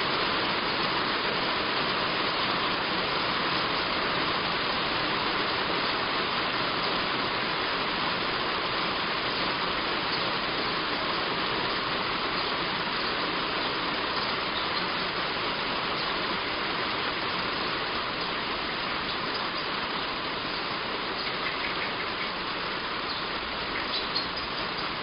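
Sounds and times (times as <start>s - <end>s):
heavy rain on a roof: 0.0s - 25.0s.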